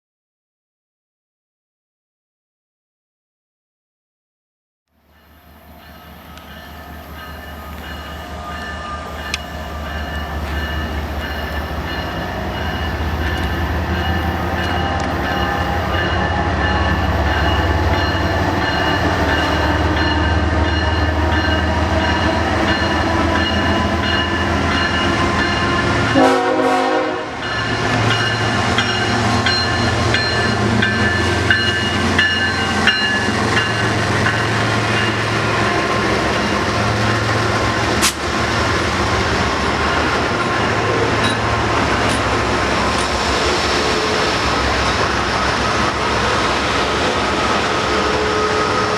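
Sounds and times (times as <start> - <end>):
diesel train engine rumble: 5.0 - 48.9.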